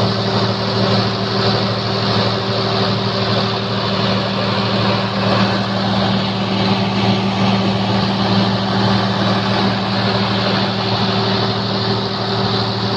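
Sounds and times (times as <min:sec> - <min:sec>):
diesel generator running: 0:00.0 - 0:12.9.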